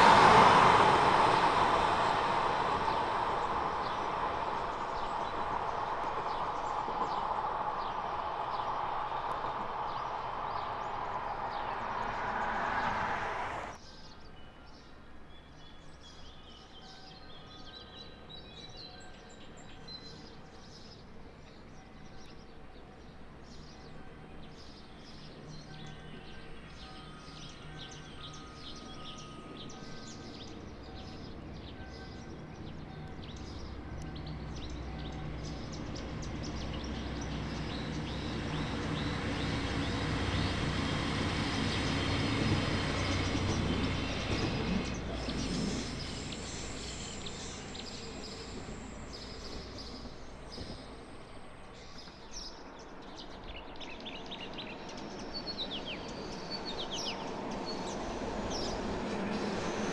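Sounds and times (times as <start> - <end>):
train rumbling over bridge: 0.0 - 13.9, 17.1 - 59.9
birds chirping: 0.0 - 14.6, 15.3 - 59.9.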